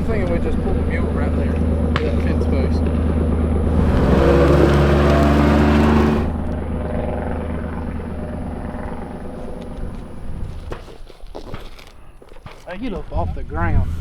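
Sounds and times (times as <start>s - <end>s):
vehicle engine pulling away: 0.0s - 10.9s, 13.6s - 14.0s.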